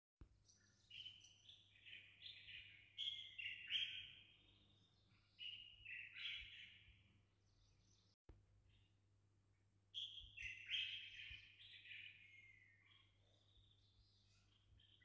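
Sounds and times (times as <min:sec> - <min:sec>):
birds chirping faintly: 0:00.2 - 0:15.0.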